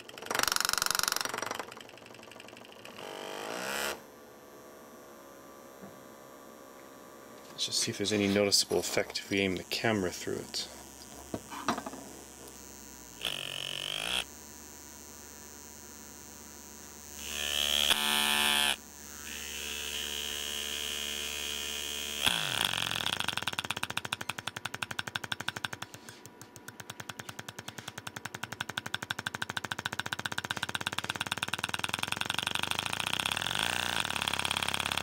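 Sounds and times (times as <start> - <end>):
actuator buzzing and pulsing: 0.0 - 35.0.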